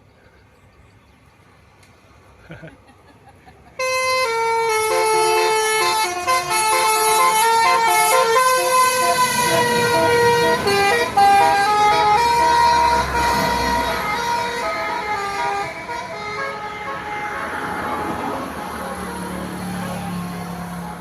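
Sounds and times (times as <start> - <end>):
musical bus air horn: 3.8 - 21.0.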